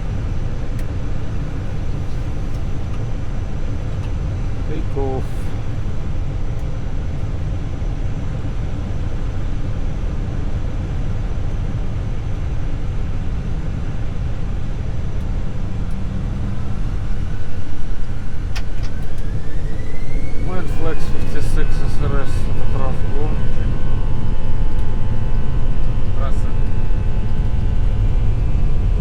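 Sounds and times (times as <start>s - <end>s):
jet engines rumbling and spooling up: 0.0s - 29.0s.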